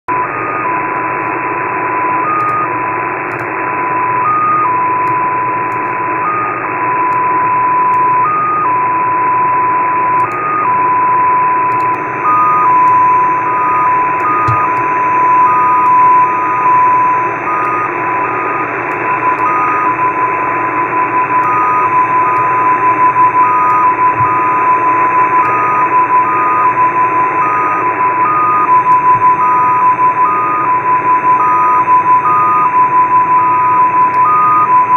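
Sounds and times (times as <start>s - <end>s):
steady tone hopping pitch: 6.2s - 34.9s.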